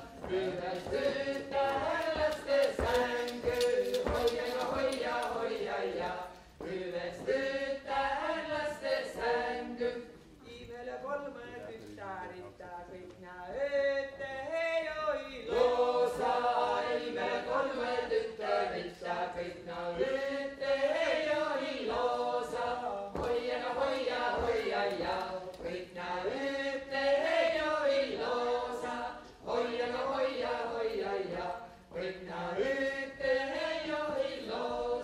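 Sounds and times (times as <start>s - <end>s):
group singing unaccompanied folk song: 0.0s - 12.0s, 12.9s - 35.0s.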